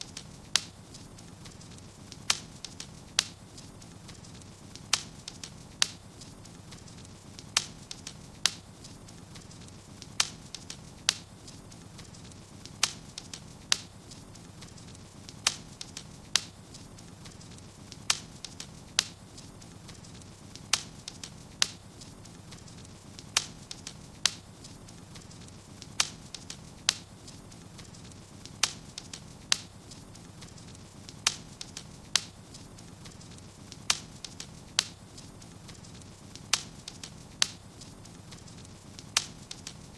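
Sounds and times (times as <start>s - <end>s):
fire hissing: 0.0s - 39.9s
wood fire crackling pops: 0.0s - 39.9s.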